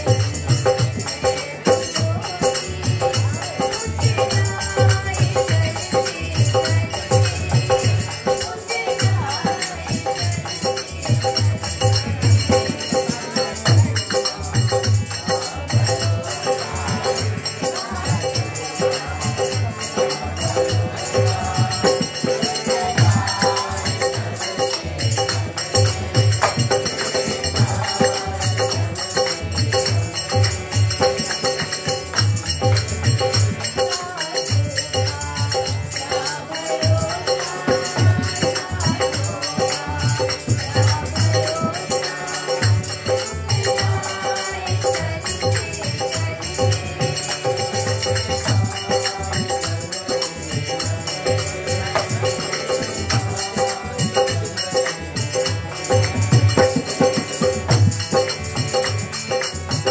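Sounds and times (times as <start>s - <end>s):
harmonium sustaining tones: 0.0s - 59.9s
jingling brass hand percussion: 0.0s - 59.9s.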